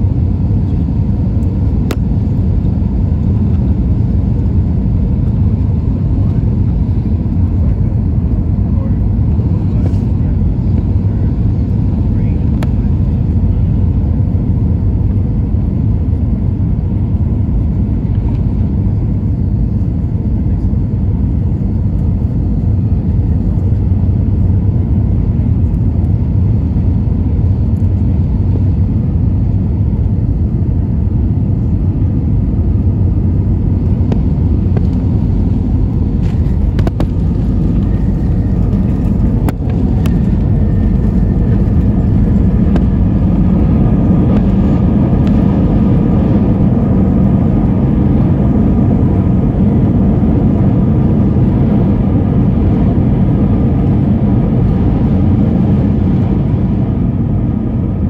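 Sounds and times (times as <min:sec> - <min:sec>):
airliner cabin rumble: 0:00.0 - 0:58.0
faint whine: 0:00.0 - 0:58.0.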